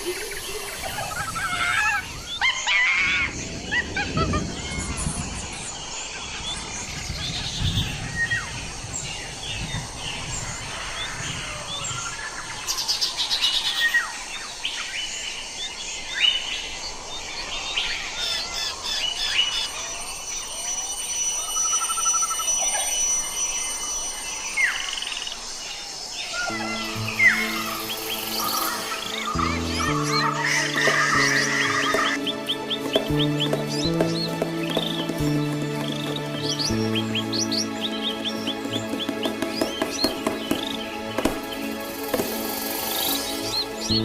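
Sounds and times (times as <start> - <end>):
birds chirping and singing: 0.0 - 44.0.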